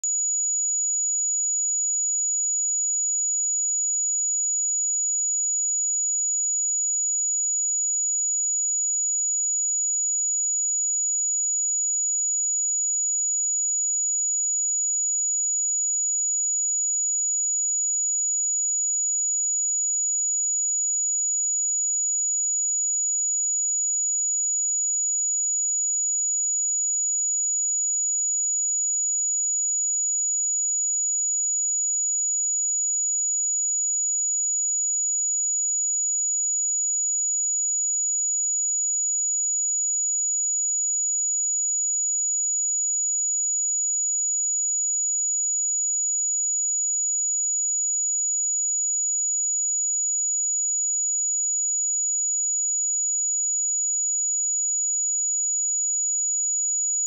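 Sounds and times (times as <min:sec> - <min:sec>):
high-pitched sine-wave test tone: 0:00.0 - 0:57.0.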